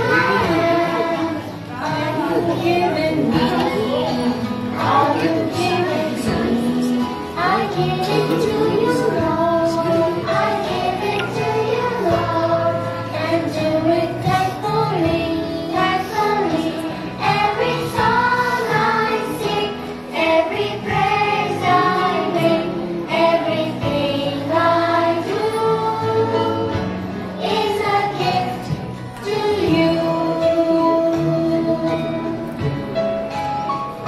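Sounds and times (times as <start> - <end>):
children singing: 0.0 - 32.4
instrumental accompaniment: 0.0 - 34.0.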